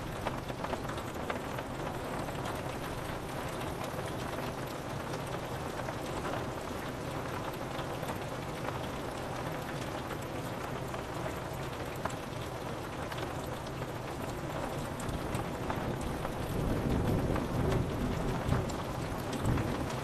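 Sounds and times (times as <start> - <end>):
rain pattering on window glass: 0.0 - 20.0.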